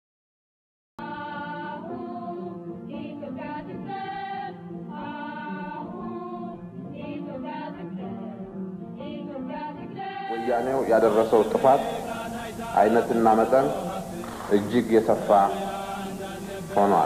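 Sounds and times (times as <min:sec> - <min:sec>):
choir singing a chant: 0:01.0 - 0:08.4, 0:09.0 - 0:17.0.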